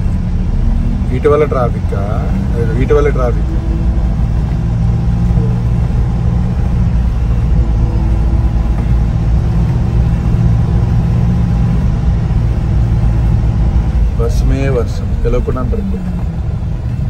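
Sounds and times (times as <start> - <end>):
tyres on wet road: 0.0 - 17.0
van engine rumble: 0.0 - 17.0.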